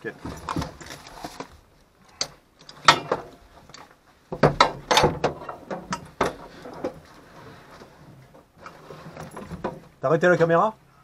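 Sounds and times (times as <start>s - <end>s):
clicks knocks and rustles: 0.1s - 10.0s.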